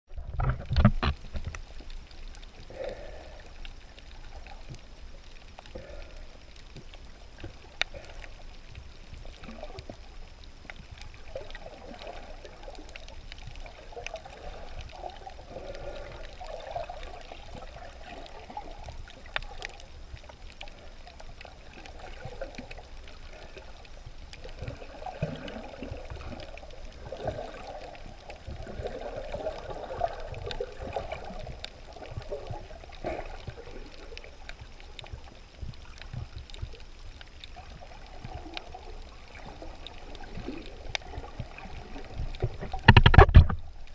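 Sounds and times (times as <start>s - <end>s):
underwater bubbling and sloshing: 0.1s - 43.9s
faint clicks: 0.4s - 43.9s.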